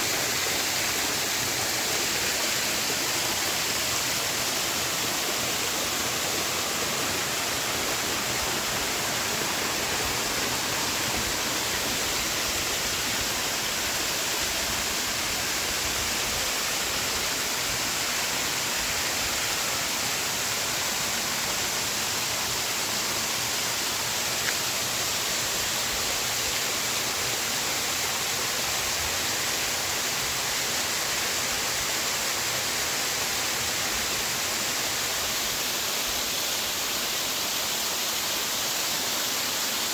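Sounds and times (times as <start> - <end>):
water rushing in a creek: 0.0 - 39.9.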